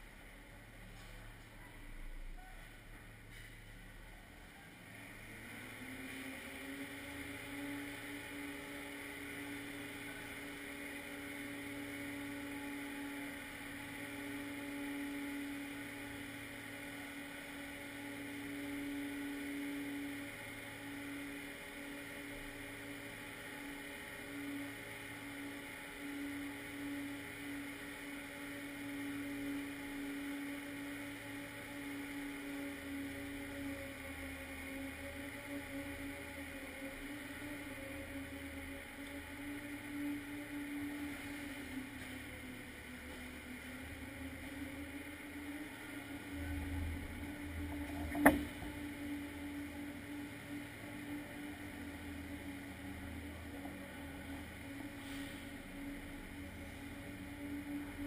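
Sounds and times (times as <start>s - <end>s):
ice resurfacer engine humming: 0.0s - 58.0s.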